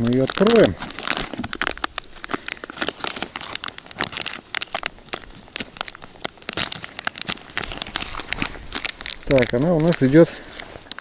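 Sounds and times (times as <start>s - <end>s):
foil packet crinkling: 0.0s - 11.0s.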